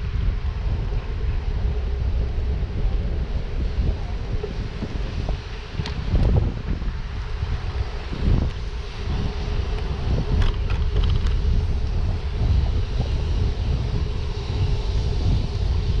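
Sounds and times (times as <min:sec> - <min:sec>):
rumble of riding on pavement: 0:00.0 - 0:16.0
wind buffeting microphone: 0:00.0 - 0:16.0.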